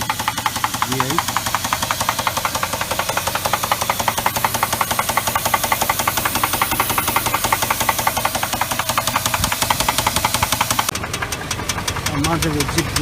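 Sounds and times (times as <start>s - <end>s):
car engine running: 0.0s - 13.0s
repeated engine knock: 0.0s - 13.0s.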